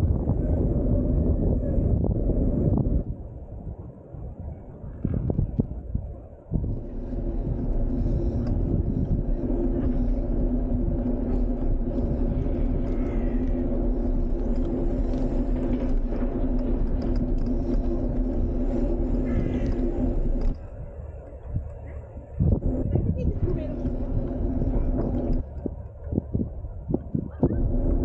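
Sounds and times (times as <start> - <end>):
wheels rolling on asphalt: 0.0 - 28.0
steady hum: 4.5 - 28.0.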